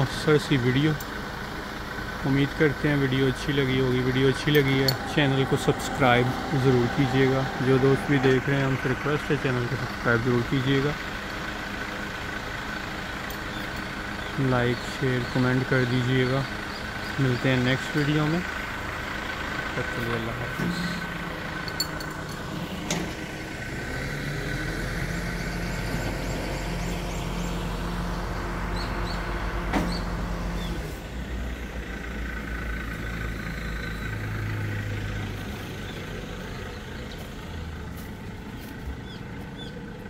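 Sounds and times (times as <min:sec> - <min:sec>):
truck engine idling: 0:00.0 - 0:40.0
small birds chirping: 0:02.3 - 0:22.9, 0:24.4 - 0:30.9, 0:32.8 - 0:40.0.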